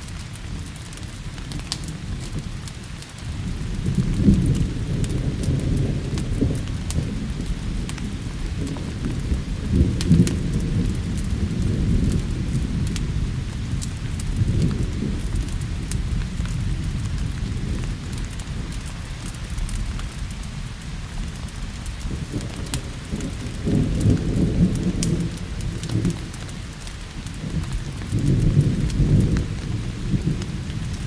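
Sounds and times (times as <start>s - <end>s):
steady rain: 0.0s - 31.0s
wood fire crackling: 0.0s - 31.0s
thunder rumbling: 0.1s - 31.0s.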